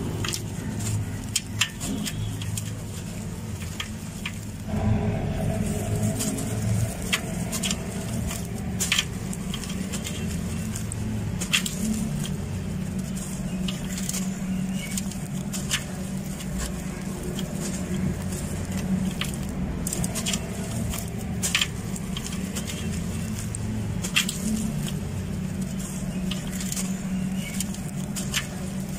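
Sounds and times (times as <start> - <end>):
gritty crunching of dry lumps: 0.0 - 28.9
steady low rumble: 0.0 - 28.9.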